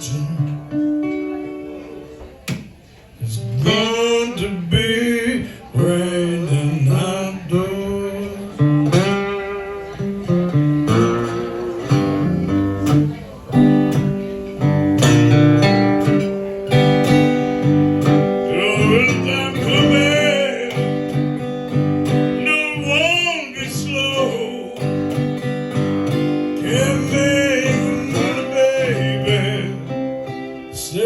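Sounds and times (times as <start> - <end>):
acoustic blues guitar plucked: 0.0 - 31.0.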